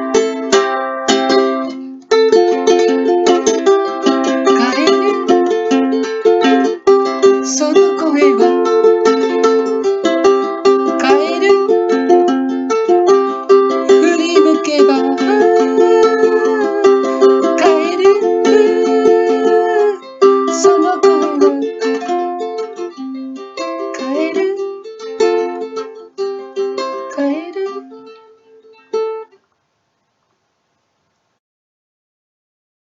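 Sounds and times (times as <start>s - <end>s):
ukulele strumming chords: 0.0s - 29.4s.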